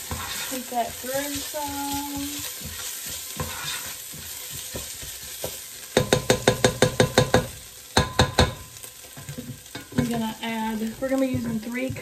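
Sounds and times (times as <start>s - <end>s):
onions sizzling in pot: 0.0s - 12.0s.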